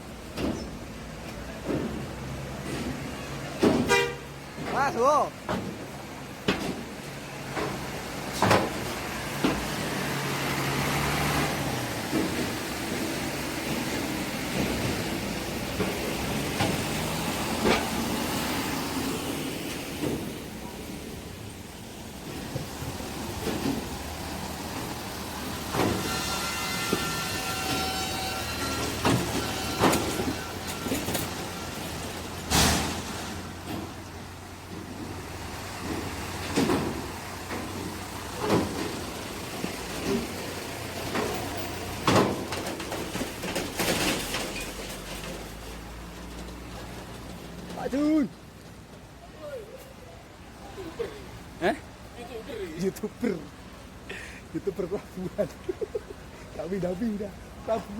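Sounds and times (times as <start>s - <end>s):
vehicle engine and road rumble: 0.0s - 57.9s.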